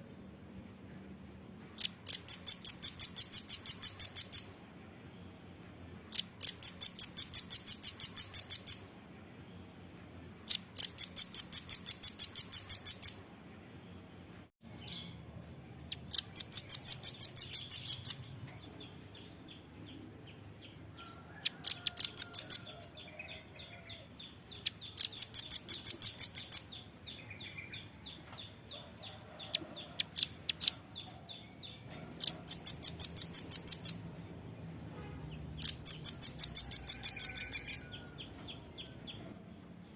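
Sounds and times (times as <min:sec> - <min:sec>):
bird singing rapid trills: 0:00.0 - 0:04.6, 0:06.1 - 0:08.9, 0:10.5 - 0:13.3, 0:14.7 - 0:21.0, 0:21.6 - 0:28.7, 0:29.4 - 0:39.9.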